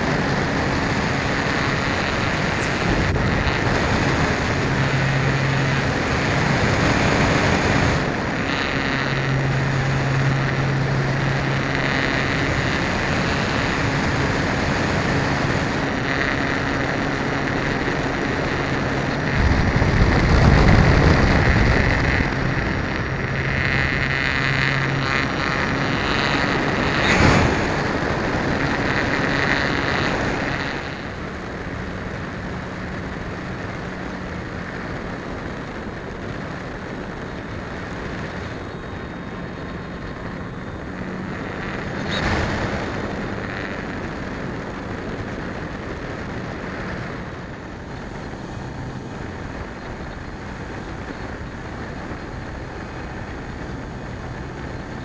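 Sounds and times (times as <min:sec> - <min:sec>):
electric motor and propeller: 0:00.0 - 0:55.0
wind on microphone: 0:00.0 - 0:55.0.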